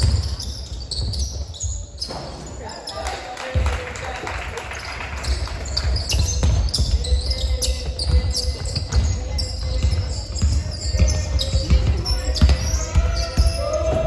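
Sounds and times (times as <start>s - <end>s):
basketball bouncing on court: 0.0s - 2.5s, 5.2s - 14.0s
sneakers squeaking on floor: 0.0s - 3.6s, 4.8s - 14.0s
players' voices: 0.0s - 14.0s.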